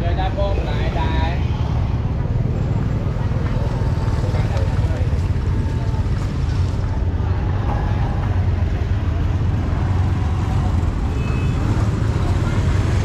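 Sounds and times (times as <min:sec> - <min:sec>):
faint voices: 0:00.0 - 0:13.0
street market rumble: 0:00.0 - 0:13.0.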